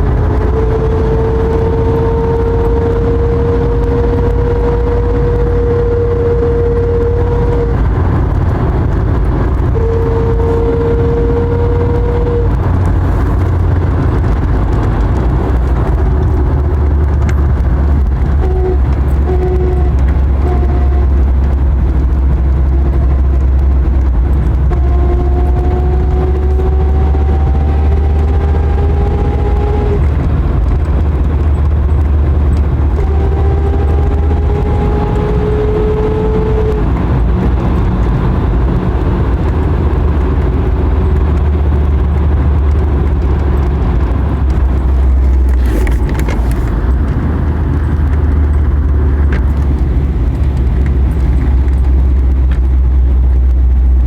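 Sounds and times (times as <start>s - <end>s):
car engine rumbling: 0.0s - 54.0s
rising whine: 0.0s - 54.0s.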